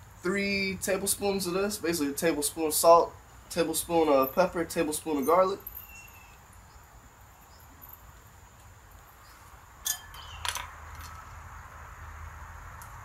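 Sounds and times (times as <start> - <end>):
quiet steady hiss: 0.0 - 13.0.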